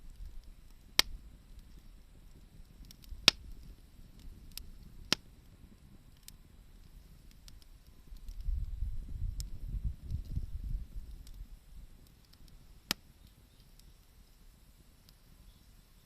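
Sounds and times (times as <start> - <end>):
sharp fire pops: 0.0 - 15.8
bonfire crackling: 0.0 - 16.0.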